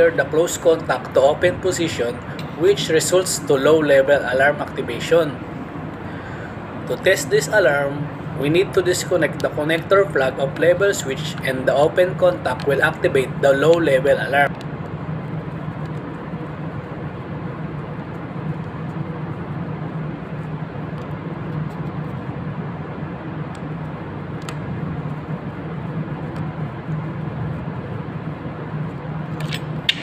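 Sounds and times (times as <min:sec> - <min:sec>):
machinery hum: 0:00.0 - 0:30.0.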